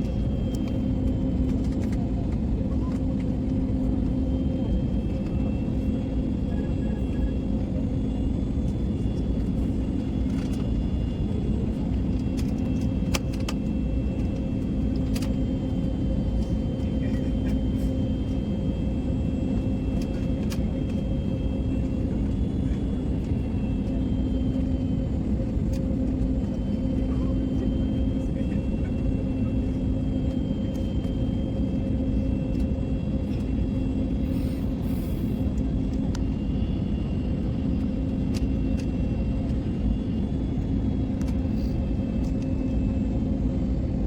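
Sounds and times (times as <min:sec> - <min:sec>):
airliner cabin drone: 0:00.0 - 0:44.0.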